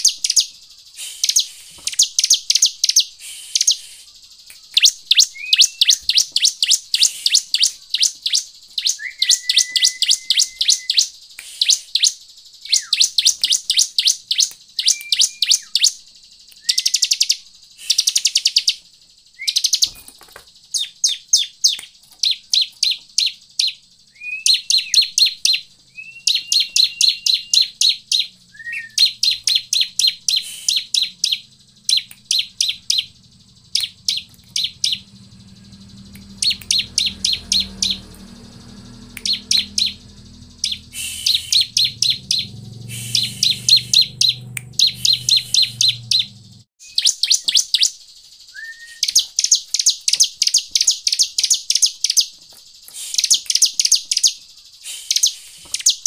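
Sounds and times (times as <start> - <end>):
bird whistled notes: 0.0 - 20.0, 20.8 - 56.0
bird sharp high chirps: 0.0 - 56.0.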